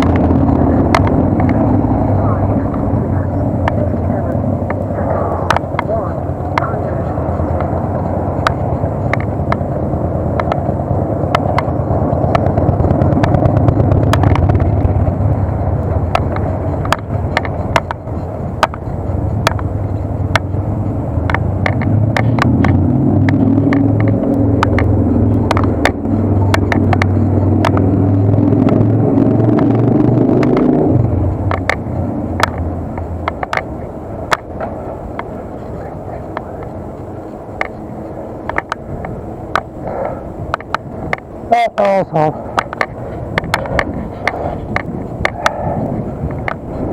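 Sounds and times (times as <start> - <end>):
motor vehicle engine hum: 0.0 - 46.9
sharp clicks and rattles: 0.0 - 46.9
wind and road rumble: 0.0 - 46.9.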